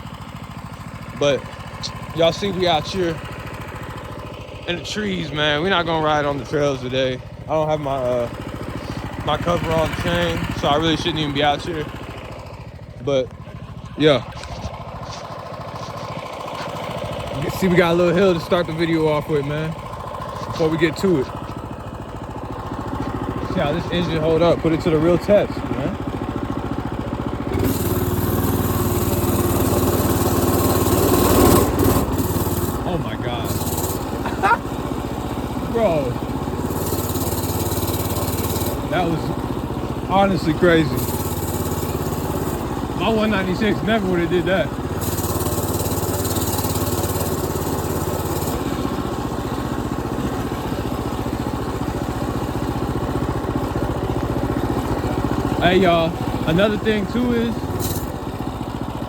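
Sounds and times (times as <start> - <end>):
small engine revving: 0.0 - 59.0.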